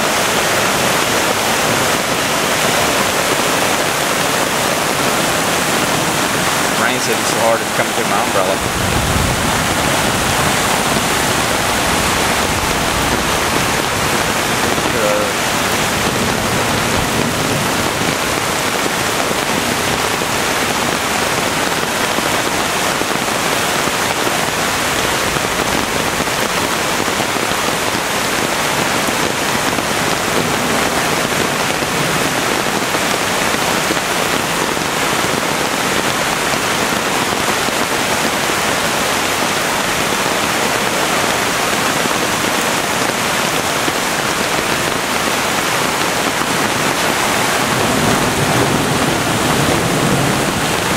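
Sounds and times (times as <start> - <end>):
creek rushing over rapids: 0.0 - 50.9
heavy rain on umbrella: 0.0 - 50.9.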